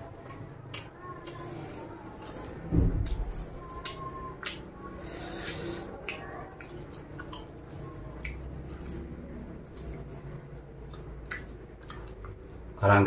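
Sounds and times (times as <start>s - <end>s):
fingers squishing food: 0.0s - 12.8s.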